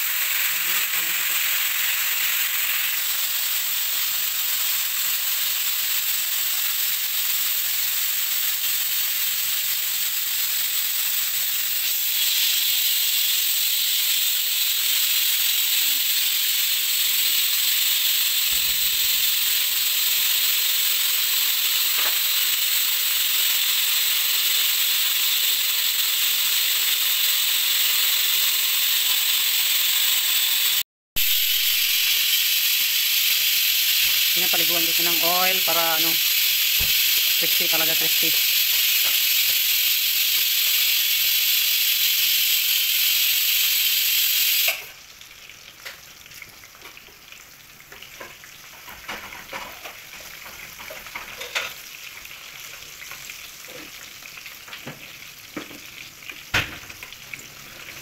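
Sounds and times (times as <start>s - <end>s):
deep-frying sizzle and crackle: 0.0s - 58.0s.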